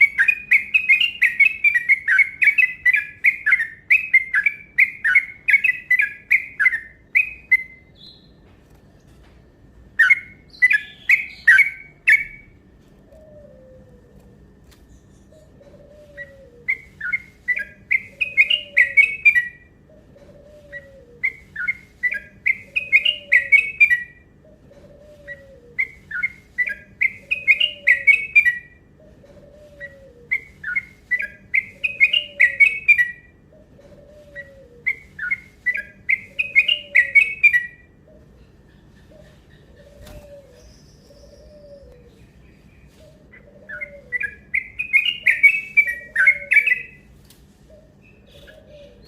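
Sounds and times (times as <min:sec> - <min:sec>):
bird singing rapid song: 0:00.0 - 0:08.5, 0:10.0 - 0:12.6, 0:14.9 - 0:24.7, 0:25.3 - 0:47.1.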